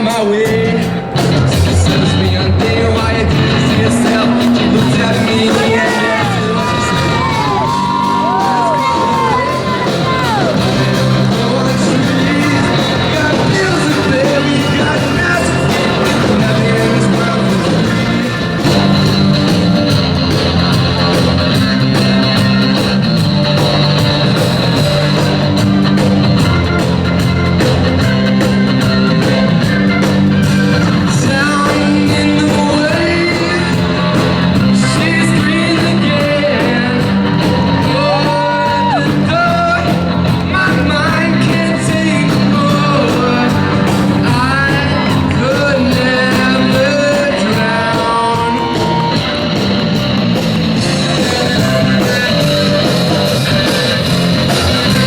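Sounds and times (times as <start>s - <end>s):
rock song with singing: 0.0s - 55.0s.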